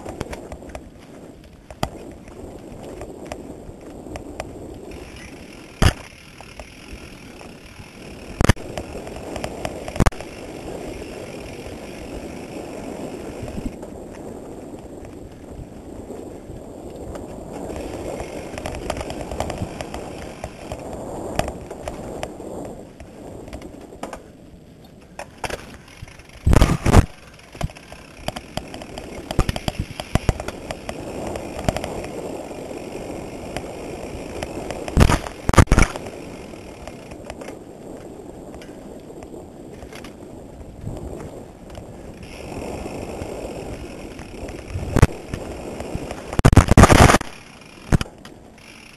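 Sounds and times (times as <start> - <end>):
bike clacking over bumps: 0.0 - 15.4, 17.0 - 40.2, 40.8 - 48.9
bike frame and chain rattling: 0.0 - 48.9
bike tyres rumbling on dirt: 0.0 - 48.9.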